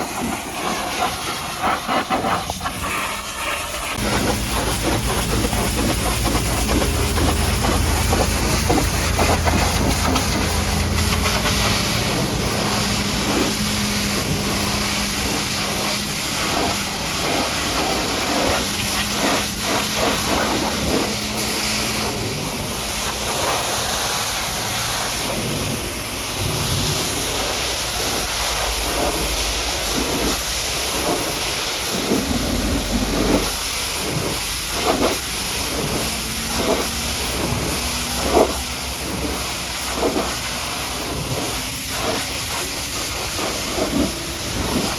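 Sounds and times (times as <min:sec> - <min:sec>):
water spattering on bodywork: 0:00.0 - 0:25.8, 0:26.4 - 0:44.9
pressure washer jet spraying: 0:00.0 - 0:44.9
low steady hum: 0:03.1 - 0:44.9.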